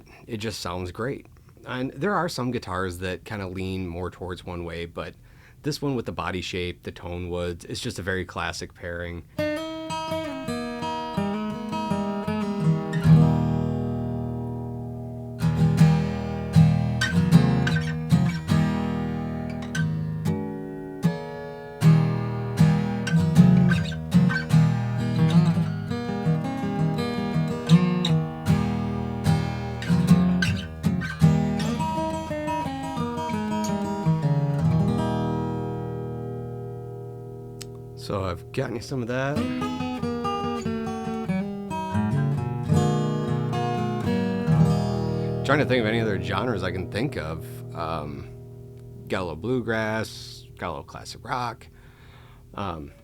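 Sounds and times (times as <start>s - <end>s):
acoustic guitar strumming and picking: 9.2s - 53.0s.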